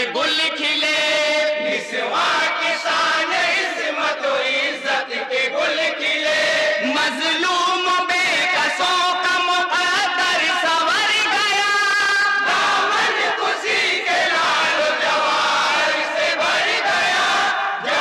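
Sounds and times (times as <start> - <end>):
men chanting in chorus: 0.0 - 18.0.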